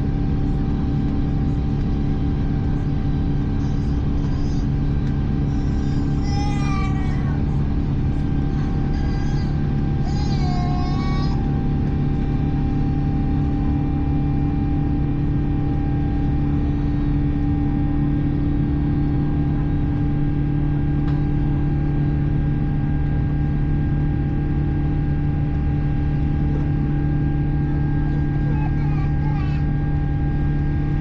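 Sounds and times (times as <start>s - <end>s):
airliner cabin hum: 0.0s - 18.7s, 22.8s - 31.0s.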